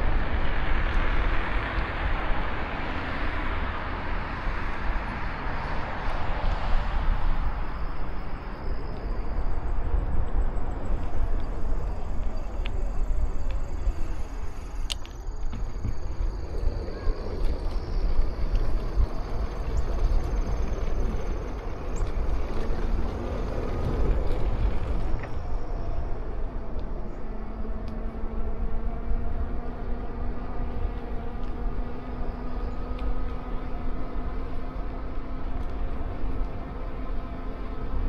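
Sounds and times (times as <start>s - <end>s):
road noise: 0.0s - 38.0s
steady vehicle hum: 0.0s - 38.0s
wind rumbling on microphone: 0.0s - 38.0s.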